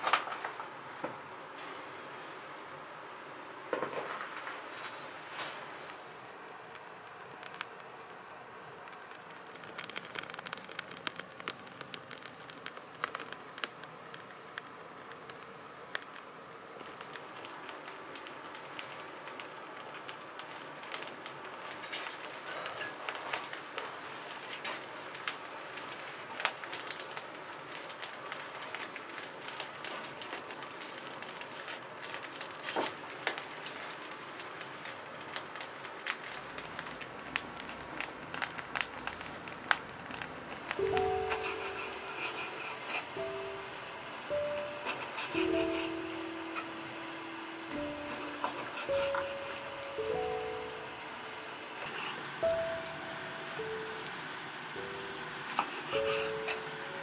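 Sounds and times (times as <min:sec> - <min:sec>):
wood fire crackling and popping: 0:00.0 - 0:00.9, 0:03.7 - 0:57.0.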